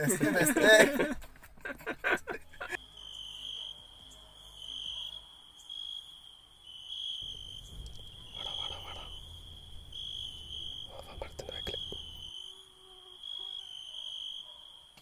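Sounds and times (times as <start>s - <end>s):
crickets trilling: 2.7s - 14.9s.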